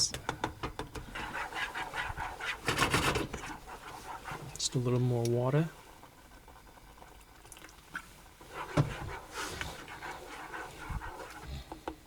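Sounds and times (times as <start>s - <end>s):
water hissing in pot: 1.0s - 12.0s.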